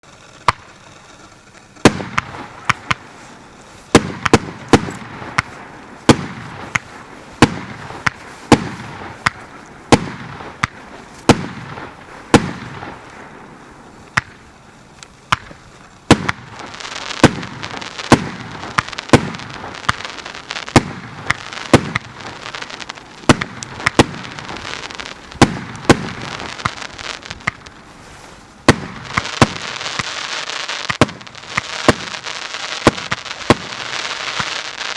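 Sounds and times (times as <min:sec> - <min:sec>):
firework bangs: 0:00.0 - 0:34.9
firework crackling hiss: 0:00.0 - 0:34.9.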